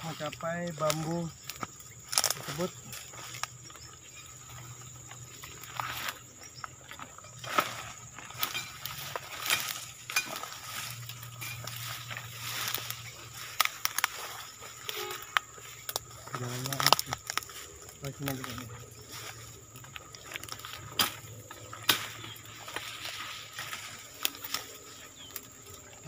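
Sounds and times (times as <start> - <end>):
dry brush rustling and snapping: 0.0 - 26.0.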